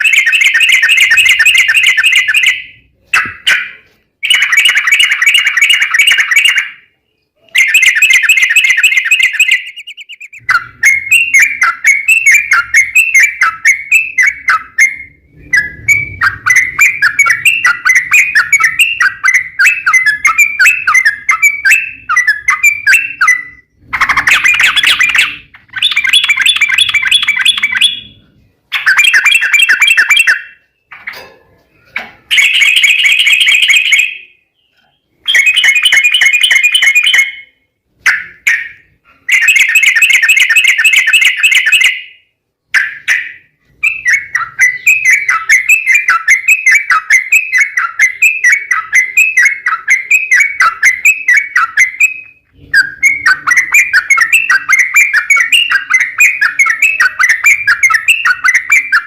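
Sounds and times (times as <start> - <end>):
bird singing rapid rolling song: 0.0 - 31.0, 32.3 - 59.0.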